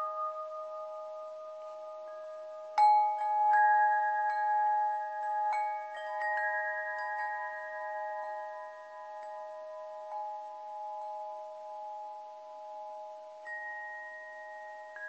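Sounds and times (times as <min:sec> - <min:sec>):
chimes ringing: 0:00.0 - 0:15.0.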